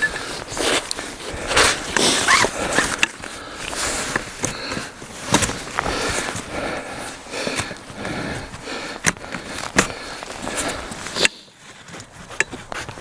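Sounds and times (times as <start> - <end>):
tent fabric rustling: 0.0 - 13.0
tent frame clicks: 0.0 - 13.0.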